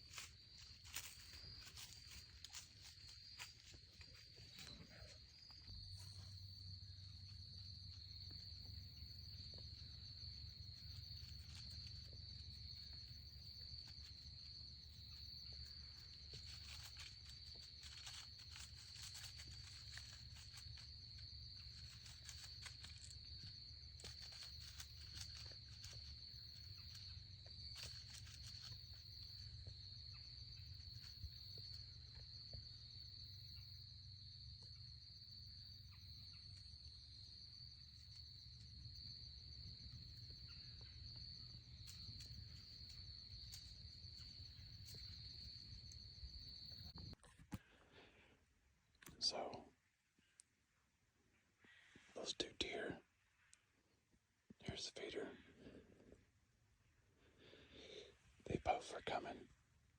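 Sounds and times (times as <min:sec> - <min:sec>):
insects trilling: 0:00.0 - 0:48.3, 0:49.0 - 0:50.0, 0:51.3 - 0:54.0, 0:54.6 - 0:59.9.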